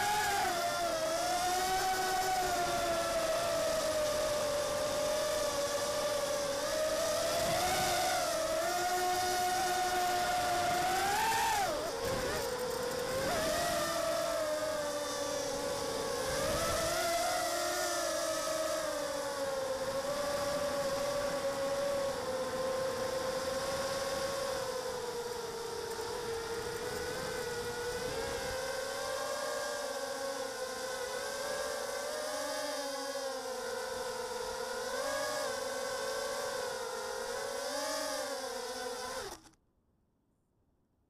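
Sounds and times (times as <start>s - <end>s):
drone motors whining: 0.0s - 39.6s.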